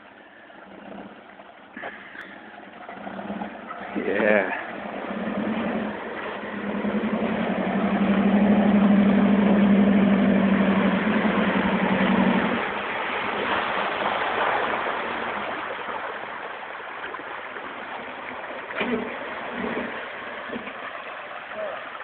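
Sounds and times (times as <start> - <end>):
mud and water sloshing: 0.0 - 22.0
truck engine running under load: 0.0 - 22.0.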